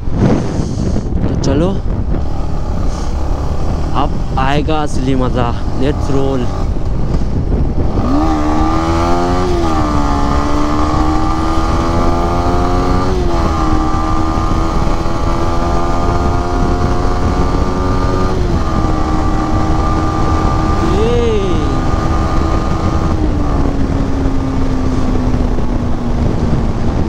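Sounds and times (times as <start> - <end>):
motorcycle engine accelerating: 0.0 - 27.0
wind noise on microphone: 0.0 - 27.0.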